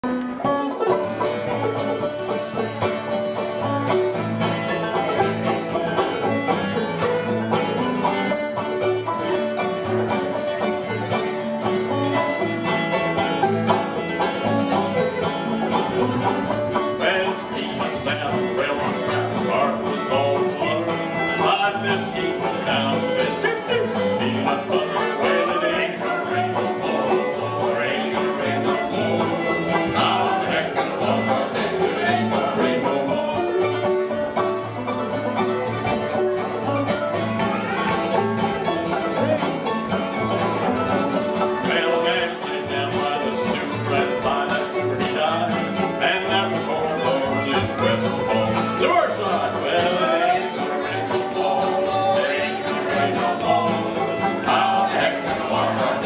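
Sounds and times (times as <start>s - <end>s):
bluegrass string band playing: 0.0s - 56.0s.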